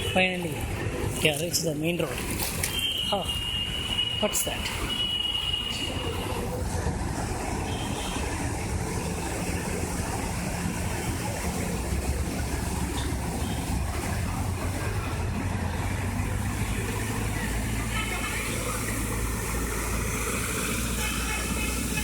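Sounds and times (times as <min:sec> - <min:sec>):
constant wash of noise: 0:00.0 - 0:22.0
vehicle engine humming: 0:00.0 - 0:22.0.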